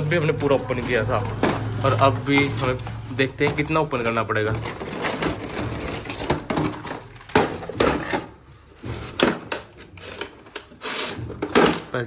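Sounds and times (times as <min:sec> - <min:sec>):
rustling handling noise: 0:00.0 - 0:12.0.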